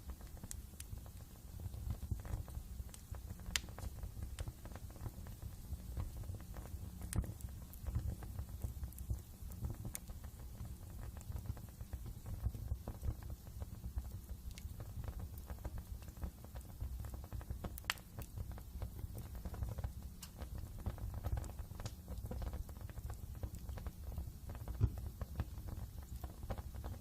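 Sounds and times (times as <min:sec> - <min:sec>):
sharp fire pops: 0:00.0 - 0:27.0
wood fire crackling: 0:00.0 - 0:27.0.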